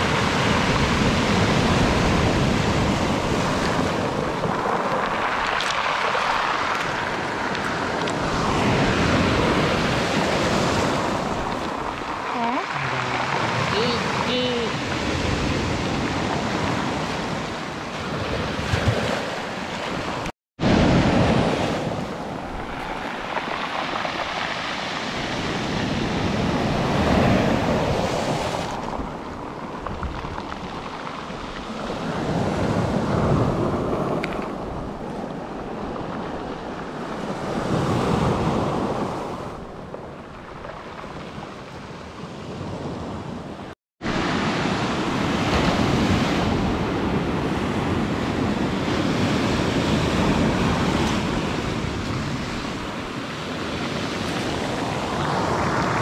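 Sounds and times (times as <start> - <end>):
sea waves breaking: 0.0 - 56.0
wind buffeting microphone: 0.0 - 56.0.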